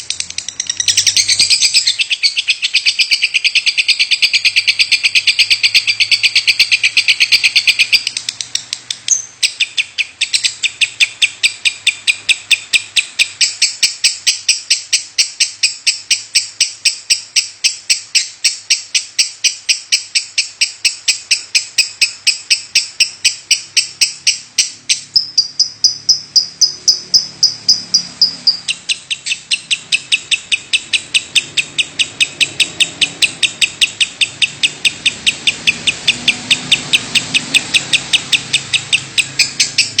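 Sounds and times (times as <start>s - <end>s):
bird sharp high chirps: 0.0s - 40.0s
bird trill: 0.0s - 40.0s.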